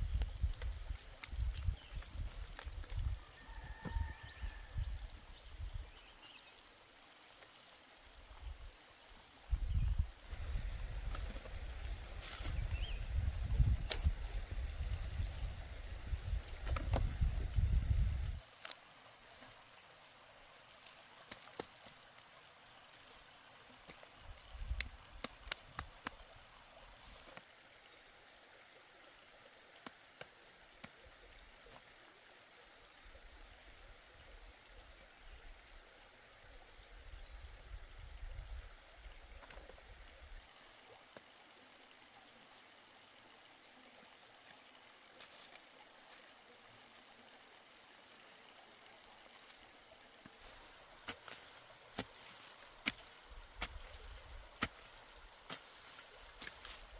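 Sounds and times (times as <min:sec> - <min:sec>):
faint trickling water: 0:00.0 - 0:56.9.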